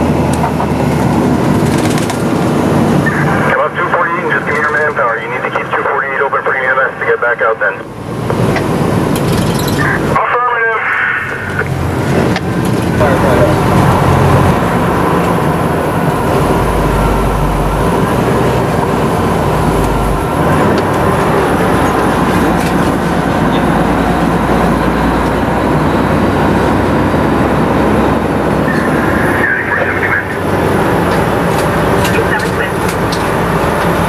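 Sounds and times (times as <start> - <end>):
fire truck engine and road noise: 0.0 - 34.0.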